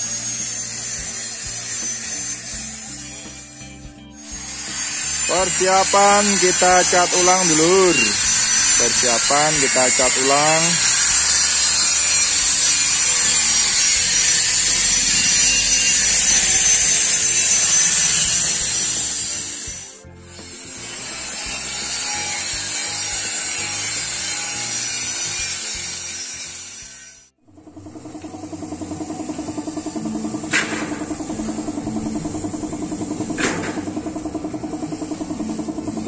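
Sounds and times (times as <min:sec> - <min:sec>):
power tool rasping rust off steel: 0:00.0 - 0:36.0.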